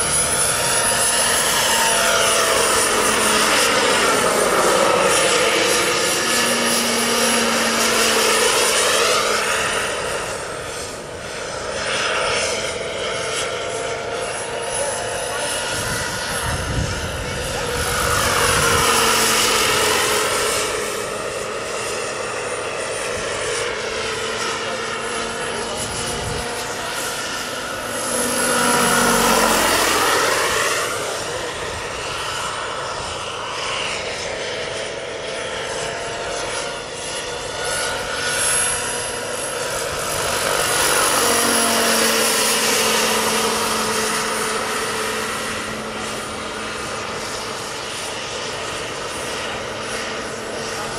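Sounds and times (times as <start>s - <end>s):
helicopter rotor noise: 0.0s - 50.9s
turbine whine: 0.0s - 50.9s.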